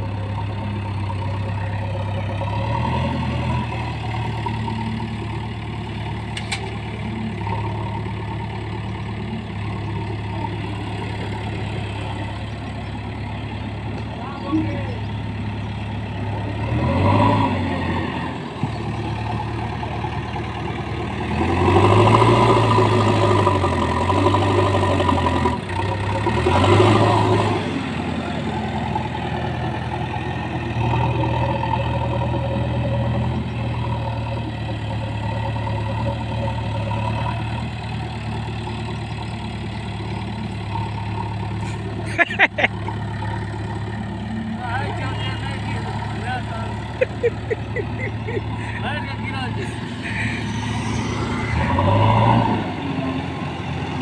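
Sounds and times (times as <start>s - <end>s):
diesel engine revving and idling: 0.0s - 54.0s.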